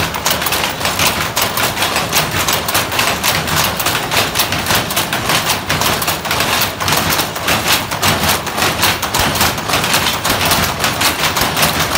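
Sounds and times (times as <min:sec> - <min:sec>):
loom clattering: 0:00.0 - 0:11.9.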